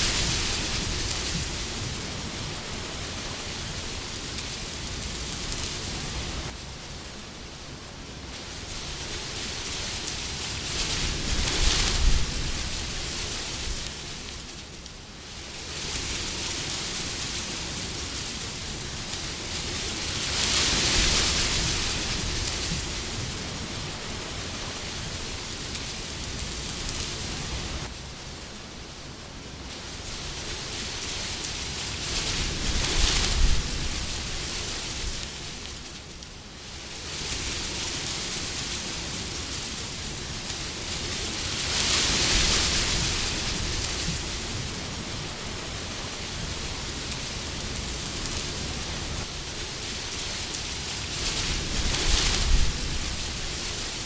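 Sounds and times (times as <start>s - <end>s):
wind blowing: 0.0s - 14.5s, 15.4s - 35.8s, 36.6s - 54.0s.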